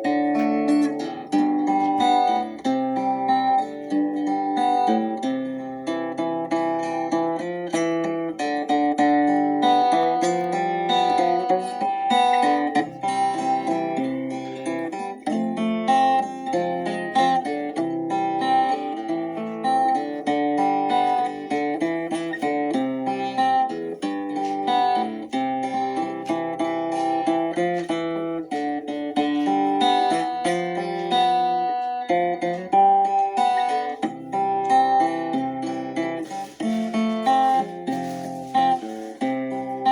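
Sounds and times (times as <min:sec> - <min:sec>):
acoustic guitar melody: 0:00.0 - 0:39.9.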